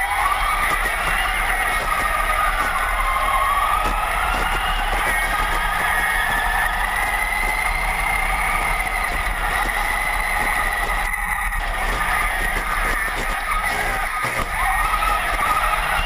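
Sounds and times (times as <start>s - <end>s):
toy truck electric motor whining: 0.0s - 16.0s.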